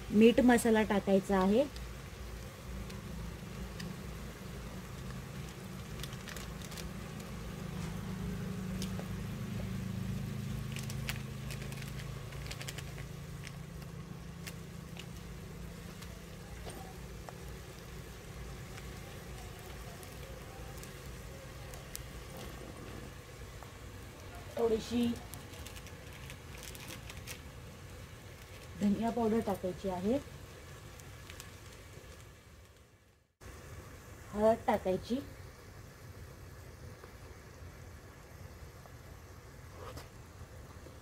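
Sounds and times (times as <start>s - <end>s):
wood fire rumbling: 0.0s - 33.7s
fire crackling and popping: 0.0s - 34.0s, 35.4s - 41.0s.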